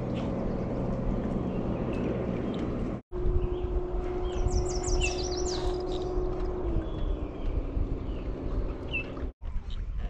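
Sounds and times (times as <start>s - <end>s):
birds chirping: 0.0s - 9.3s
distant motor humming: 0.0s - 9.4s
low rumble: 0.0s - 10.0s.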